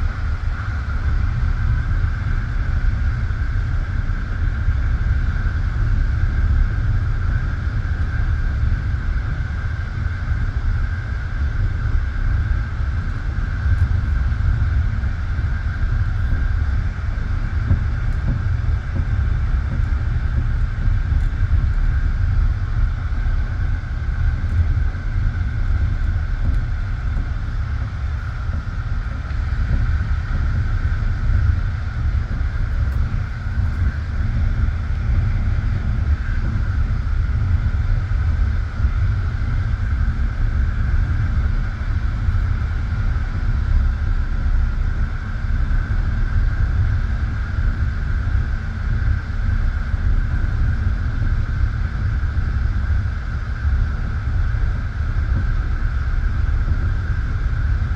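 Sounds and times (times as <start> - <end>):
high-pitched hum: 10.2 - 57.9.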